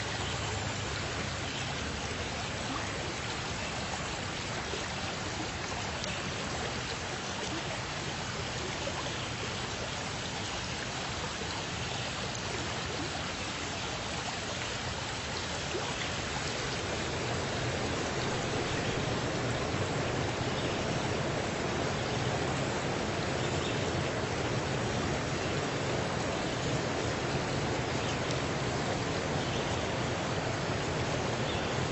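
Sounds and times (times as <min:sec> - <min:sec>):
water flowing in a stream: 0:00.0 - 0:31.9.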